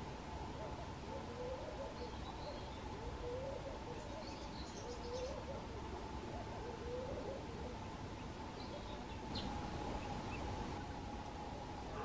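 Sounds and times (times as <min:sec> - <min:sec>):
outdoor background noise: 0:00.0 - 0:12.0
small birds chirping: 0:00.0 - 0:12.0
bird hooting calls: 0:00.6 - 0:07.9, 0:08.5 - 0:12.0.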